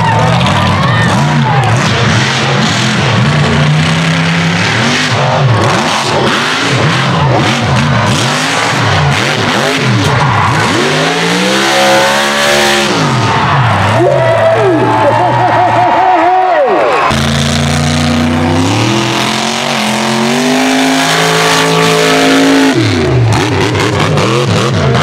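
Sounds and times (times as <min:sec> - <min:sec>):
truck engine revving: 0:00.0 - 0:16.0, 0:16.8 - 0:25.0.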